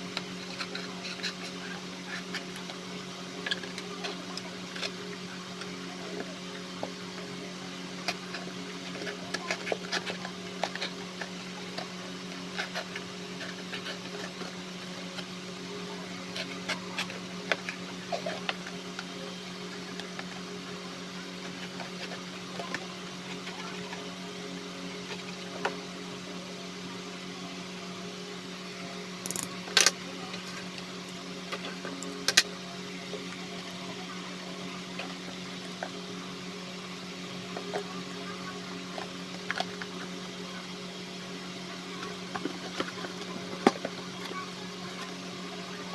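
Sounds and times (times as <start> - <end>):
low machine hum: 0.0 - 45.9.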